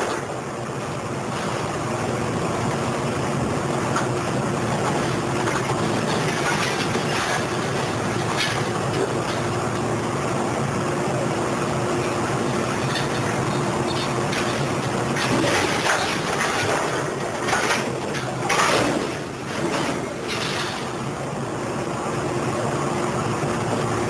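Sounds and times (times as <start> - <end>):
diesel engine and hydraulics: 0.0 - 24.0.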